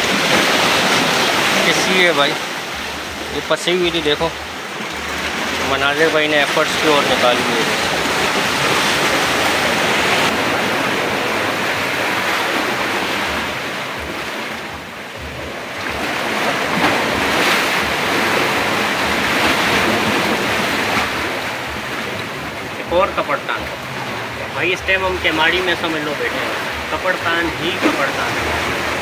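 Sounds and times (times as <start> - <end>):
sea waves washing against rocks: 0.0 - 29.0.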